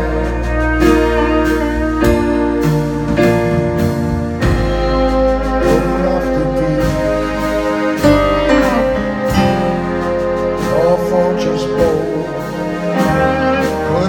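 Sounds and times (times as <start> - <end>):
drums: 0.0 - 14.0
keyboard chords: 0.0 - 14.0
soprano saxophone lead: 0.0 - 14.0.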